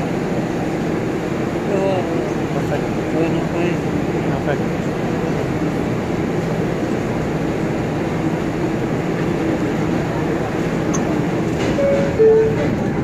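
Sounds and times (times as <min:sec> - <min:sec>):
subway train pulling out: 0:00.0 - 0:13.0.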